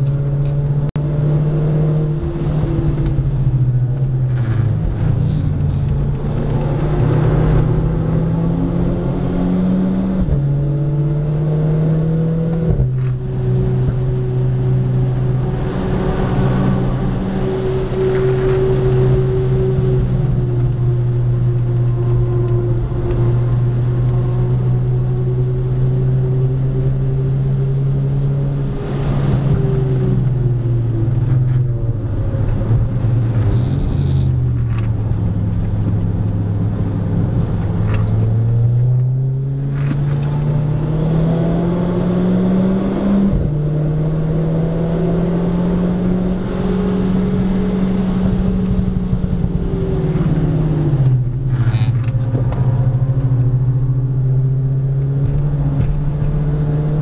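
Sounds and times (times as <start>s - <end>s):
car engine driving hard: 0.0s - 57.0s.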